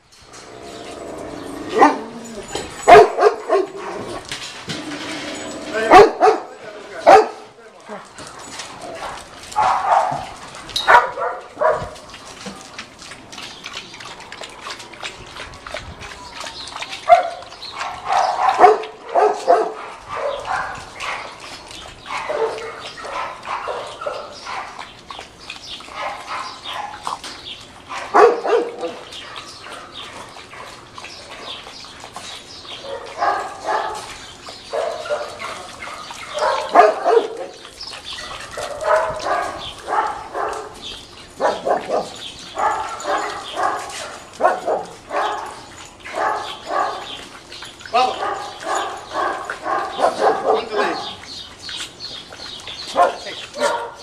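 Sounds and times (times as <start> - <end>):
dogs barking and yipping: 0.1 - 54.0.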